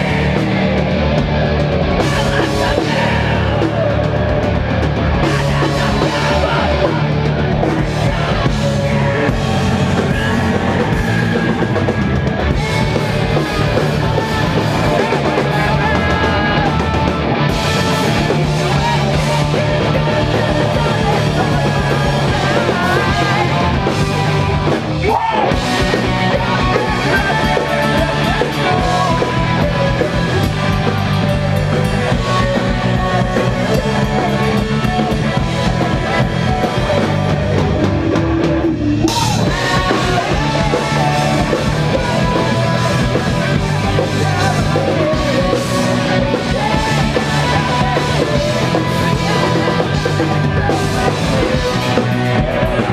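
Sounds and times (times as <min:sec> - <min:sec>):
distorted electric guitars: 0:00.0 - 0:52.9
drum kit: 0:00.0 - 0:52.9.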